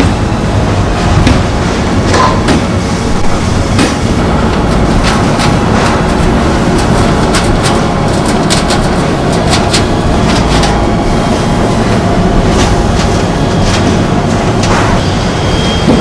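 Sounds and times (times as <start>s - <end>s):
printing machine rumble: 0.0s - 16.0s.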